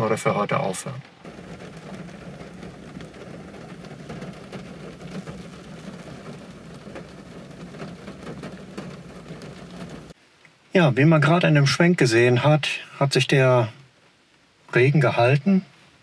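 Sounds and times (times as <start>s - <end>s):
rain on a car roof: 0.0s - 16.0s.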